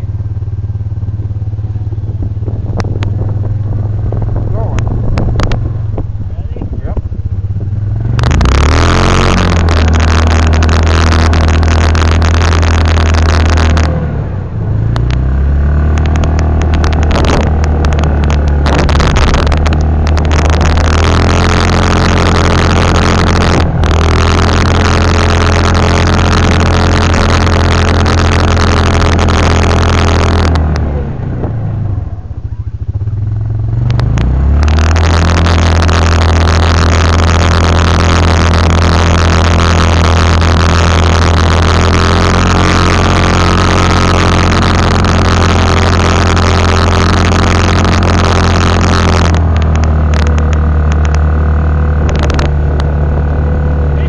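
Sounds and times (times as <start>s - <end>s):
engine at high revs: 0.0s - 54.0s.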